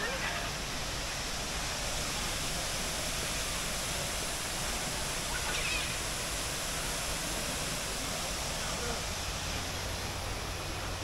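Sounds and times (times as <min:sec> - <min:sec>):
rush of falling water: 0:00.0 - 0:11.0.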